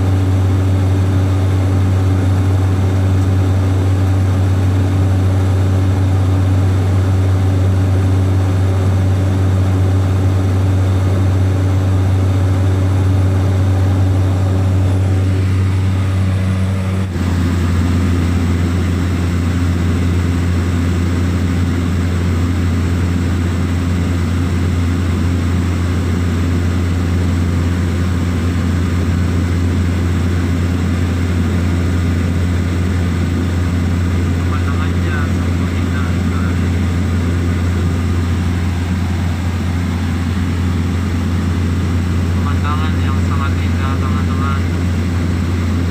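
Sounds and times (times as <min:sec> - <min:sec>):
propeller plane engine drone: 0:00.0 - 0:45.9.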